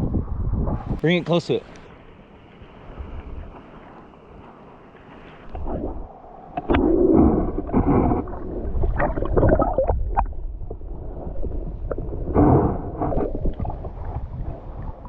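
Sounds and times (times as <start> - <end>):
wind rumbling on microphone: 0.0 - 1.1, 1.7 - 15.0.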